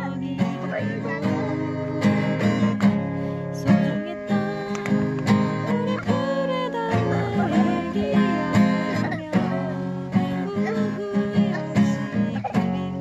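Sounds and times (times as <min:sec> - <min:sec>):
man singing a ballad: 0:00.0 - 0:02.6, 0:03.7 - 0:13.0
acoustic guitar strumming: 0:00.0 - 0:13.0.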